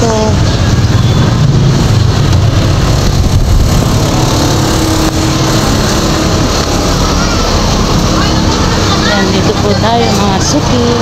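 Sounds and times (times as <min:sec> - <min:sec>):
street traffic engine noise: 0:00.0 - 0:11.0.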